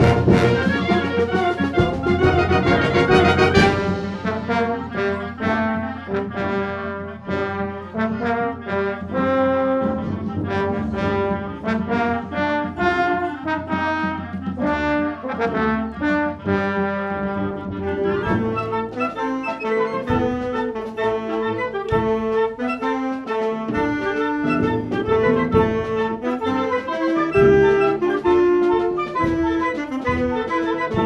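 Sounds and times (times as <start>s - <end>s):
wind band playing short notes: 0.0s - 31.0s.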